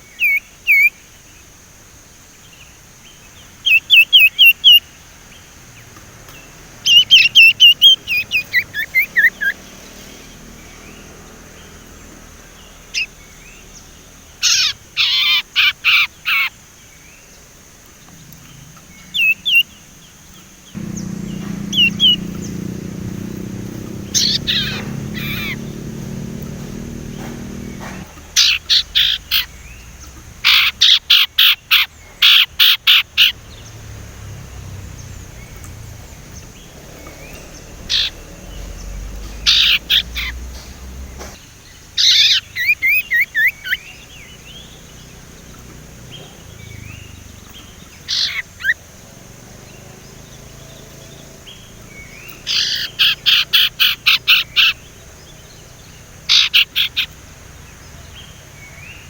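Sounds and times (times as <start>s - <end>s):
songbird chattering: 2.4s - 59.0s.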